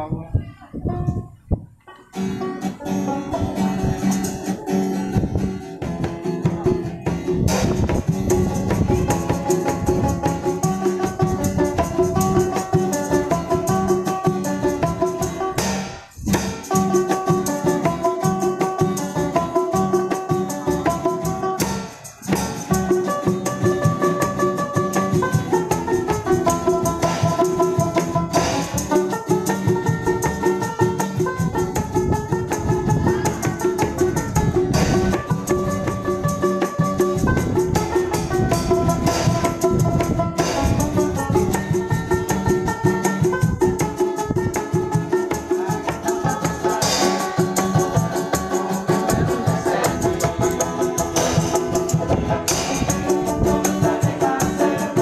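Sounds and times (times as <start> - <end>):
acoustic guitars playing: 0.4 - 55.0
tambourine: 7.5 - 55.0.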